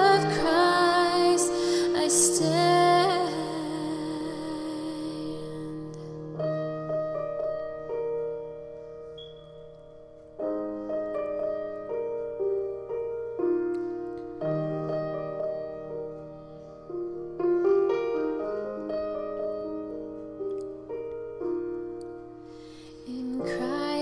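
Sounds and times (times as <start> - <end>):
piano hymn interlude: 0.0 - 24.0.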